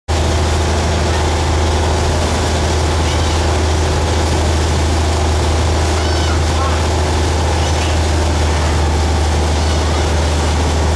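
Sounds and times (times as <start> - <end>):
boat motor running: 0.1 - 10.9
water rushing in wake: 0.1 - 10.9.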